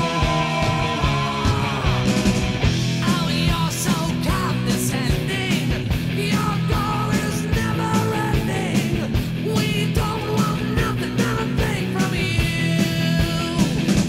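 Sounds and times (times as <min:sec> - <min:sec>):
rock music with drum beat: 0:00.0 - 0:14.0.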